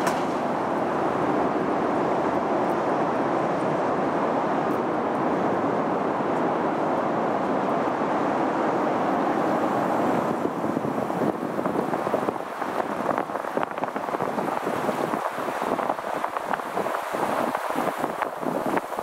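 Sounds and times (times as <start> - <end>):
tyre and road noise: 0.0 - 19.0
wind rushing over microphone: 0.0 - 19.0.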